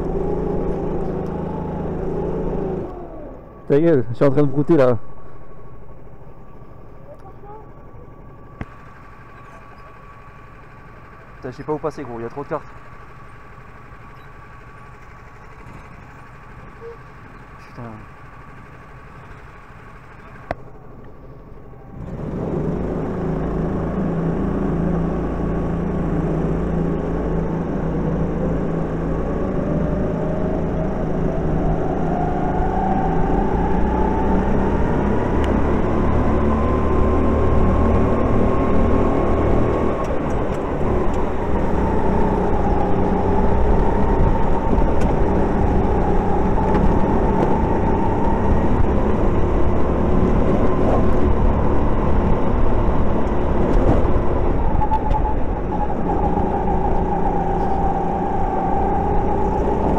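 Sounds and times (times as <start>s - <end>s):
kart engine revving: 0.0s - 5.0s, 5.8s - 20.9s, 21.6s - 59.9s
other karts running: 0.0s - 59.9s.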